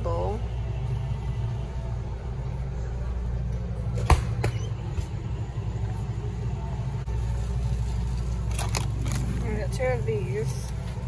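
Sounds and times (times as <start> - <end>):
freezer hum: 0.0 - 11.0.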